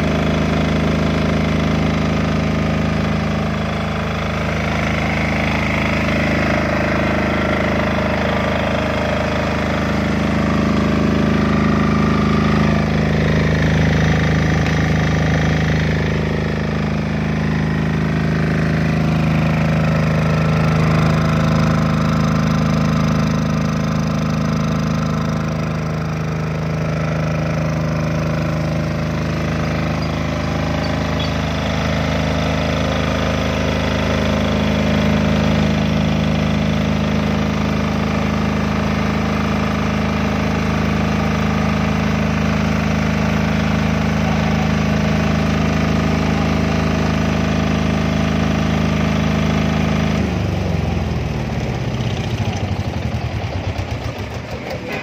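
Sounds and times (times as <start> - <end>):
diesel generator engine running: 0.0 - 55.0.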